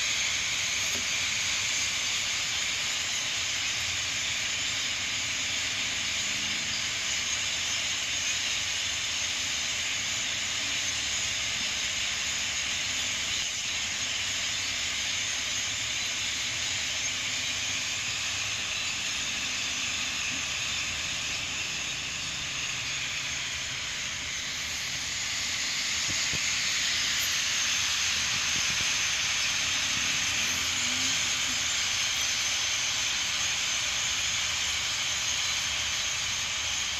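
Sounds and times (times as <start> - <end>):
starling flock chattering: 0.0 - 36.9.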